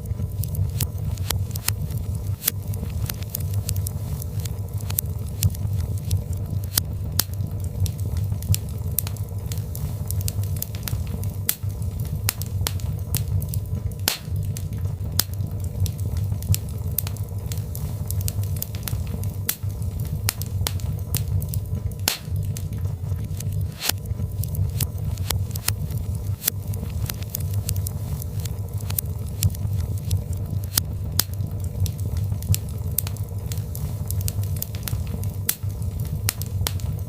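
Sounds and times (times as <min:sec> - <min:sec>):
fire crackling and popping: 0:00.0 - 0:37.0
low rumble of fire: 0:00.0 - 0:37.0.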